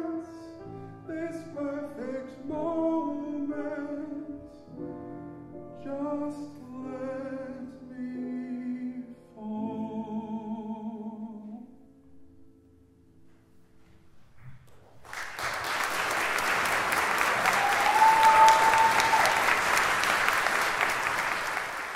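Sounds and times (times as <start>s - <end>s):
piano: 0.0s - 21.9s.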